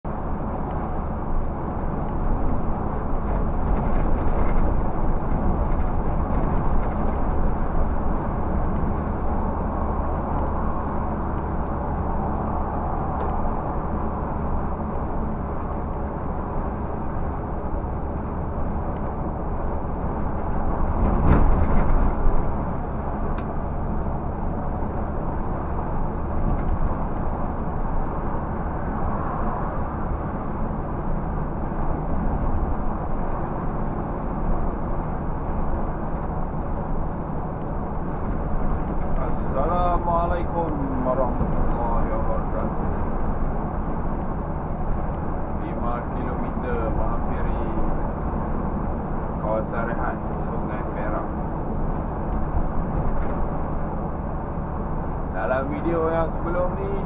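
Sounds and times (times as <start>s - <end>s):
road noise: 0.0s - 57.0s
truck diesel engine running: 0.0s - 57.0s.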